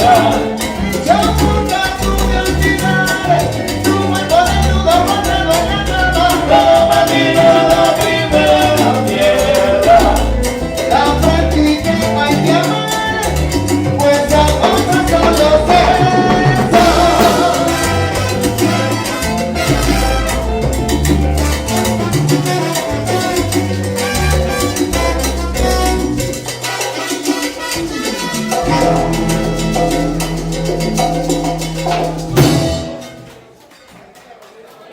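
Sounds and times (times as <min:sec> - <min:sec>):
salsa orchestra music: 0:00.0 - 0:34.0.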